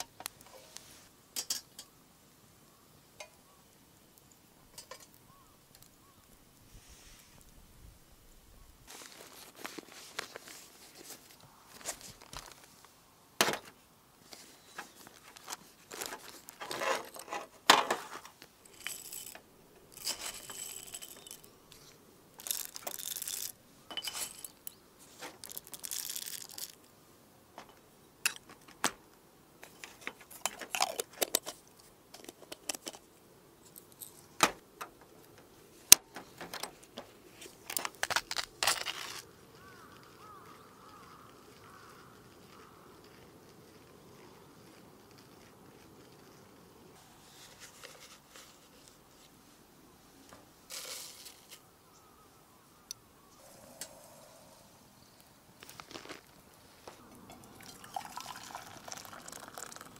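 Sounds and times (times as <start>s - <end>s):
rustling and crinkling: 0.0s - 1.9s, 8.8s - 26.9s, 27.5s - 51.8s, 55.2s - 59.9s.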